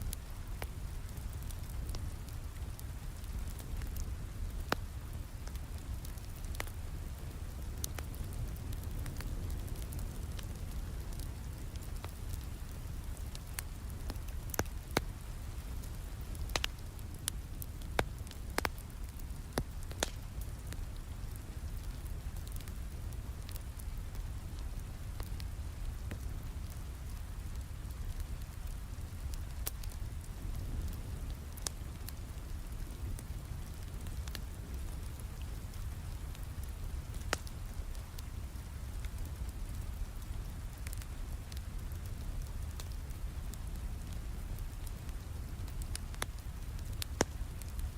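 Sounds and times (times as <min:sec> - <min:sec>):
steady rain falling: 0:00.0 - 0:47.9
wood fire crackling and popping: 0:00.0 - 0:47.9.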